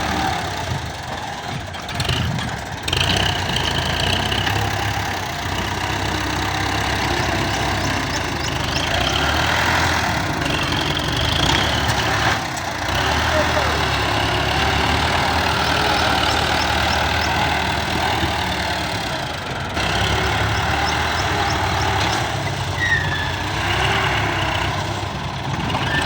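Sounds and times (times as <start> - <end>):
combine harvester engine drone: 0.0 - 26.0.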